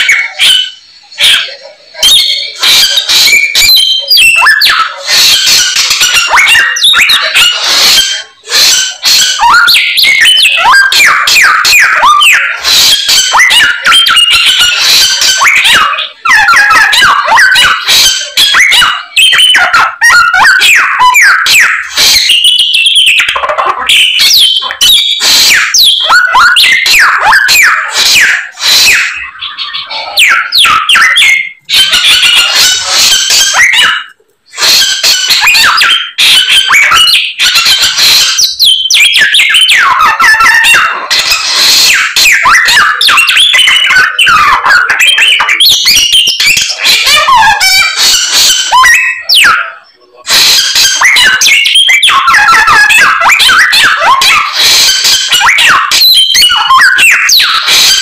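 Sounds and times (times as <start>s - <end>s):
songbird singing chirps and whistles: 0.0s - 58.0s.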